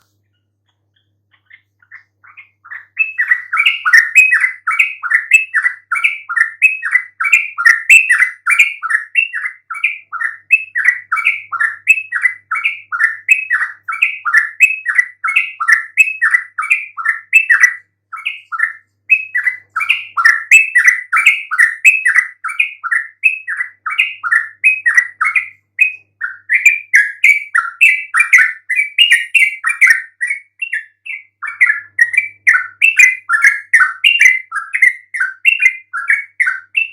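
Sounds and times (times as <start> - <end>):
bulbul chattering song: 0.0 - 36.9.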